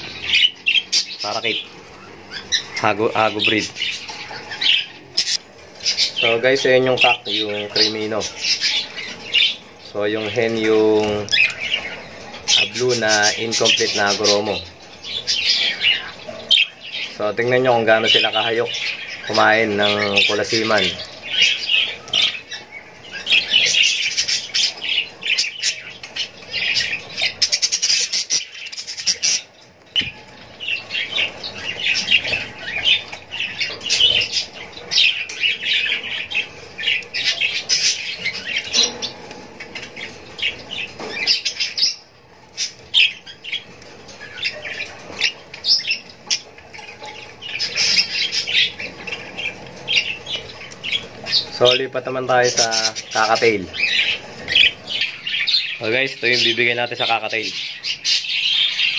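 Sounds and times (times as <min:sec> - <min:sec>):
budgerigars chirping and squawking: 0:00.0 - 0:58.9.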